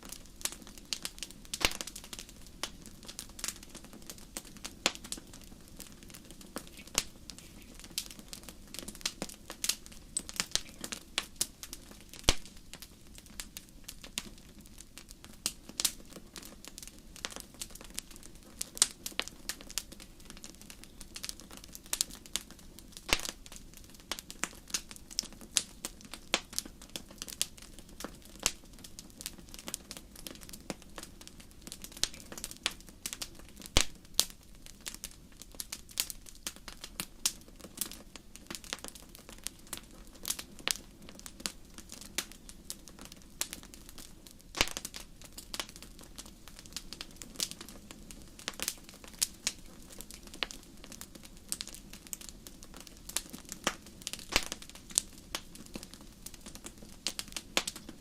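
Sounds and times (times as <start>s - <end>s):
soft hiss of burning: 0.0s - 58.0s
wood fire crackling and popping: 0.0s - 58.0s.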